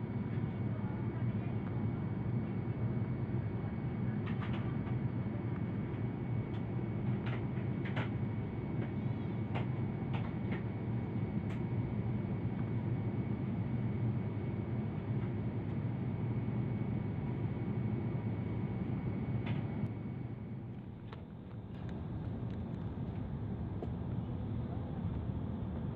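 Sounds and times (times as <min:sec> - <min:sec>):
airliner cabin engine drone: 0:00.0 - 0:25.9.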